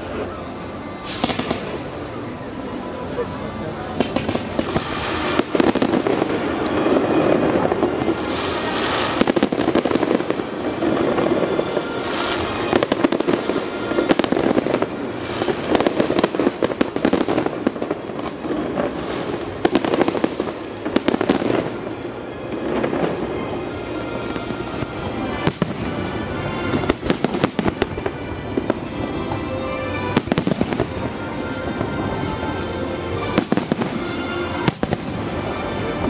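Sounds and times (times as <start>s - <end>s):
fireworks bangs and crackling: 0.0s - 36.0s
steady background din: 0.0s - 36.0s.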